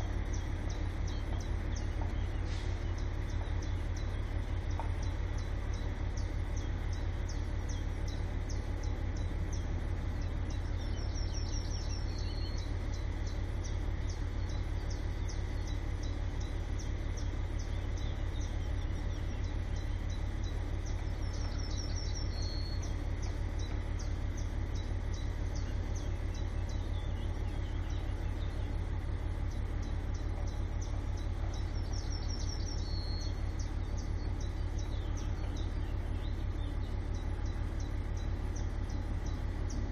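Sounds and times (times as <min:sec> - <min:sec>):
faint fast chirping: 0:00.0 - 0:39.9
songbird singing: 0:00.0 - 0:39.9
steady low rumble: 0:00.0 - 0:39.9.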